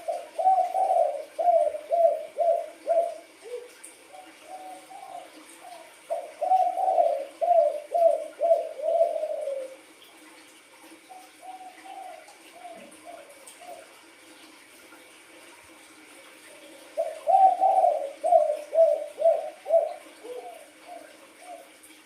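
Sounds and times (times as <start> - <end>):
dove cooing: 0.0 - 9.9, 11.0 - 14.0, 16.5 - 21.9.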